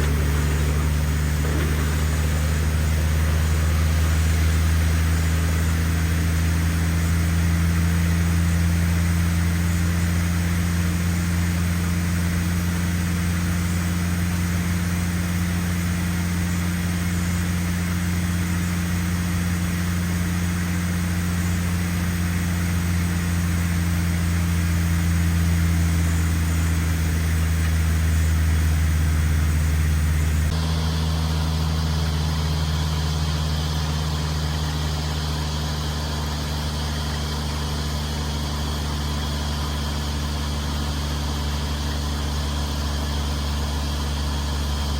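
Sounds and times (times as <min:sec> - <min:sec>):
drilling rig engine humming: 0:00.0 - 0:19.0, 0:19.6 - 0:44.9.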